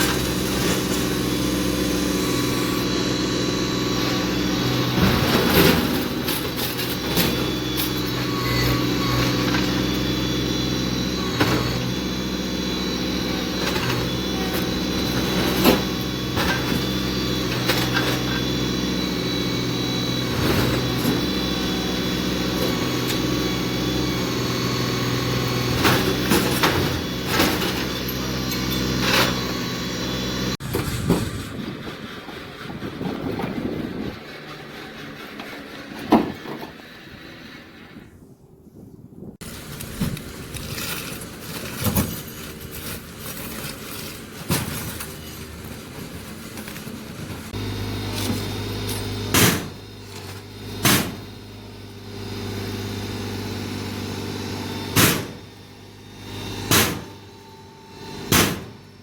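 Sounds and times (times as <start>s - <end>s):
tractor diesel engine running: 0.0s - 38.2s, 39.4s - 59.0s.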